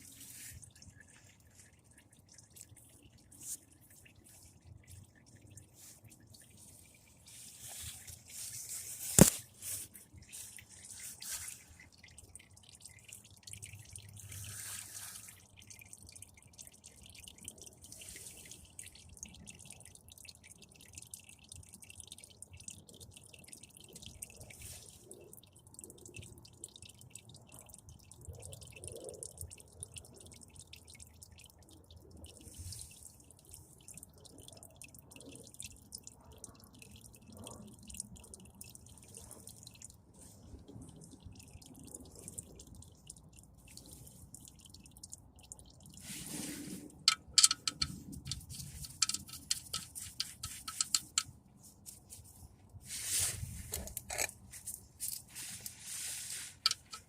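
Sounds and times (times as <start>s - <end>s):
oil dripping into drain pan: 0.0s - 52.9s, 53.6s - 57.0s.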